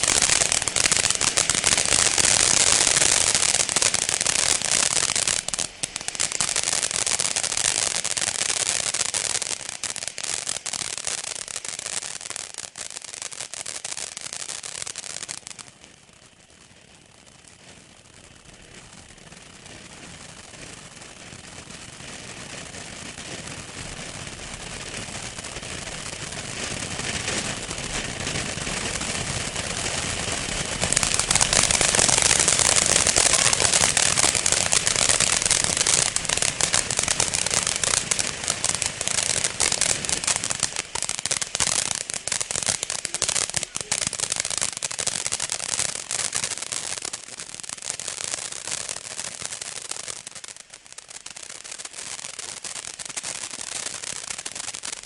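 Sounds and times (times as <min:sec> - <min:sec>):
firework fountain hissing and crackling: 0:00.0 - 0:55.0.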